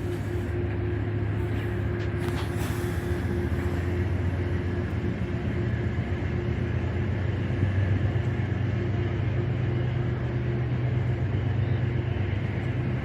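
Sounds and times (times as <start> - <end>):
locomotive engine humming: 0.0 - 13.0.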